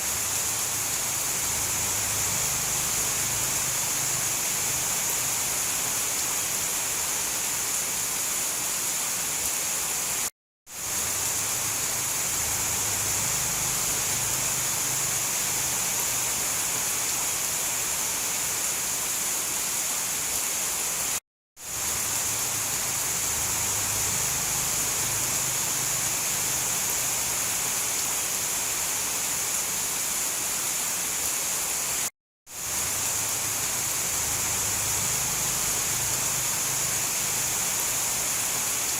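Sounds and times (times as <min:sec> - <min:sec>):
rainforest rain hiss: 0:00.0 - 0:38.9.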